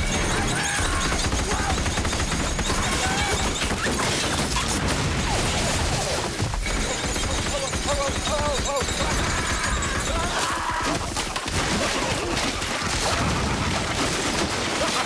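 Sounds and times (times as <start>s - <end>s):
explosions: 0.0s - 10.2s, 10.8s - 15.0s
machine gun firing rapidly: 0.0s - 15.0s
walls smashing: 0.0s - 15.0s.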